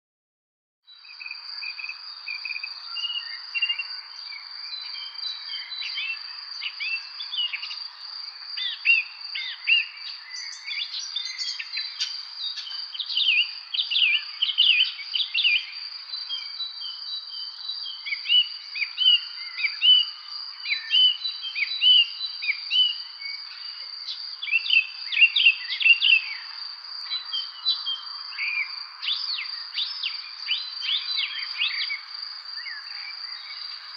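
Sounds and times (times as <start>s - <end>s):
songbirds chirping: 0.9s - 33.9s.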